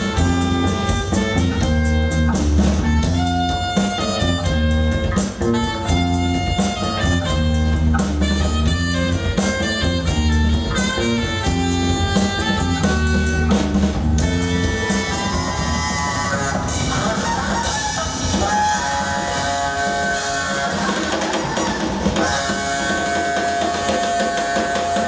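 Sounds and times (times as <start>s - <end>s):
drum kit: 0.0s - 25.0s
electric bass: 0.0s - 25.0s
saxophone: 0.0s - 25.0s.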